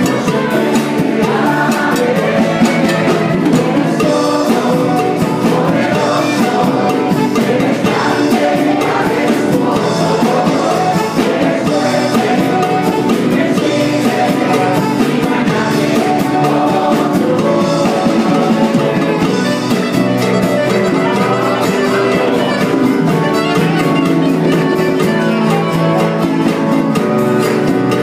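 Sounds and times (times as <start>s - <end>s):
saxophones playing: 0.0s - 27.3s
steady percussion beat: 0.0s - 28.0s
voices singing along: 0.0s - 28.0s.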